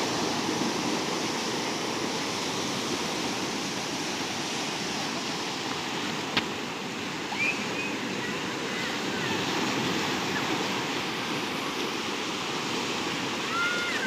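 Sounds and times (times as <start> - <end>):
sea surf washing on shore: 0.0 - 14.0.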